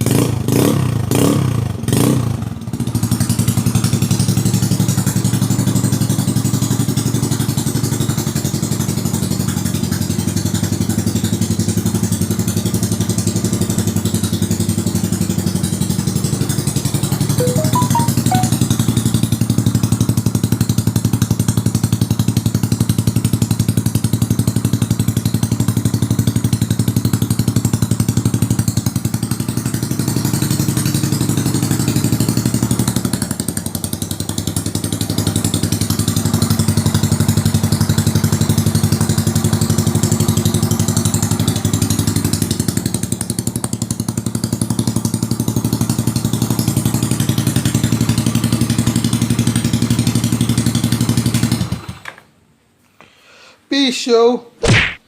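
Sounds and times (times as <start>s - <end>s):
scooter engine idling: 0.4s - 17.0s, 20.7s - 52.0s.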